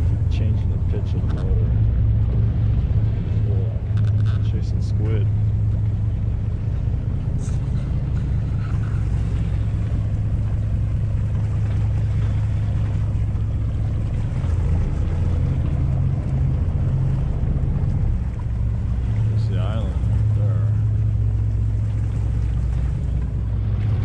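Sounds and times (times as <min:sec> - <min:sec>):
boat engine droning: 0:00.0 - 0:24.0
water noise: 0:00.0 - 0:24.0
wind: 0:00.0 - 0:24.0.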